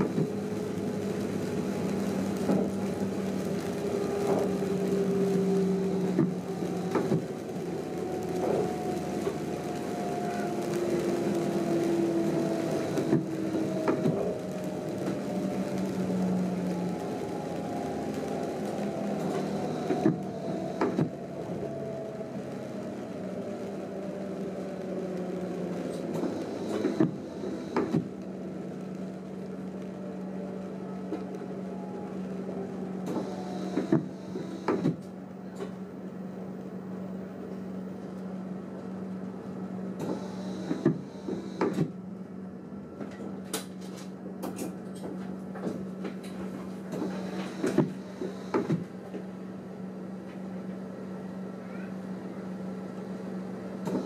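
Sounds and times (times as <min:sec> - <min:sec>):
train cab hum and whine: 0:00.0 - 0:54.0.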